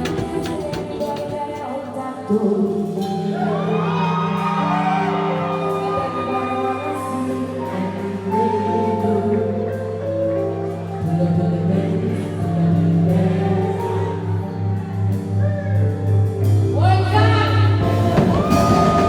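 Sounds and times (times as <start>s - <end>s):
music with bass and melody: 0.0s - 19.0s
person singing: 0.0s - 19.0s.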